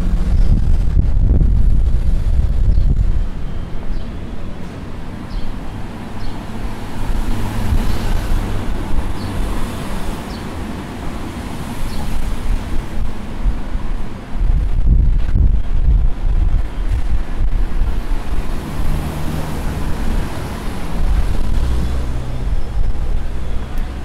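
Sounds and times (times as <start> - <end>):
street traffic rumble: 0.0 - 24.0
wind buffeting microphone: 0.0 - 24.0.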